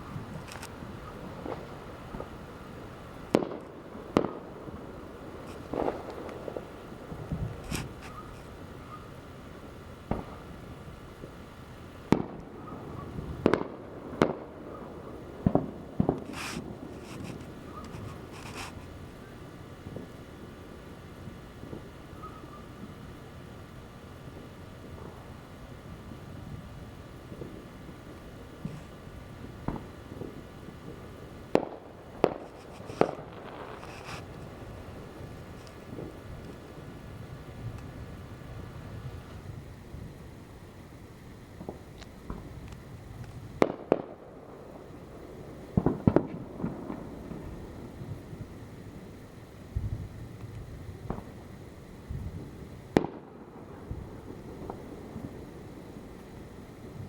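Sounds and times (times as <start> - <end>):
fireworks bangs: 0.0 - 57.0
fireworks hissing bursts: 0.0 - 57.0.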